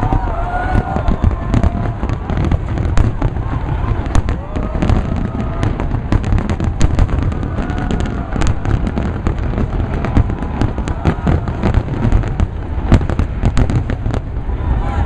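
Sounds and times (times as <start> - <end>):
fireworks bursts: 0.0 - 15.0.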